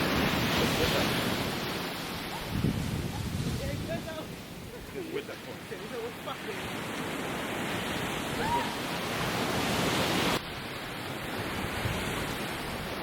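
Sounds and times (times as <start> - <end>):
wind on microphone: 0.0 - 5.2, 7.2 - 13.0
sea surf rushing: 0.0 - 13.0.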